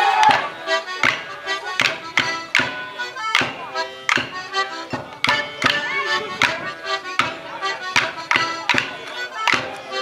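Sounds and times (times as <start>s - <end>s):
accordion dance tune: 0.0s - 10.0s
wooden sticks clacking: 1.0s - 10.0s.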